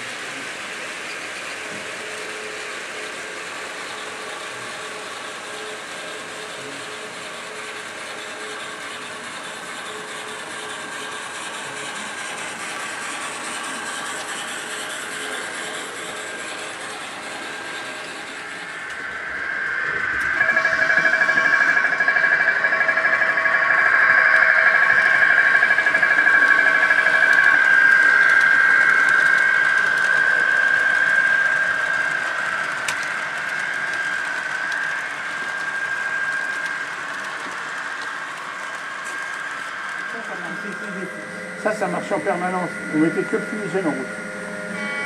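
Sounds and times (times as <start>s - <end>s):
model train motor whining: 0.0s - 45.0s.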